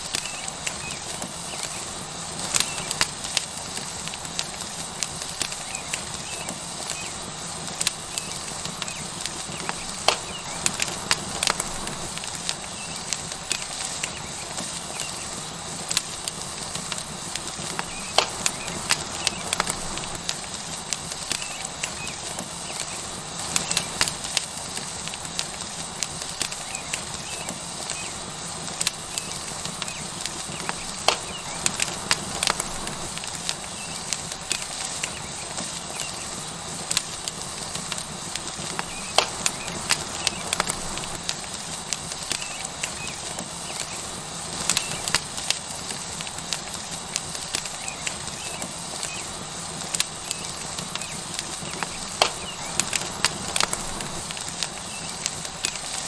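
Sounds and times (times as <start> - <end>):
burning wood crackling: 0.0 - 56.0
steak sizzling on hot stone: 0.0 - 56.0.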